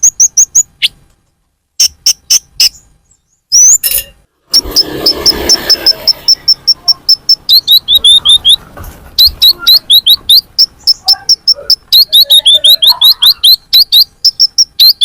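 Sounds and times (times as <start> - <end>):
fast high bird chirps: 0.0 - 1.0, 1.8 - 15.0.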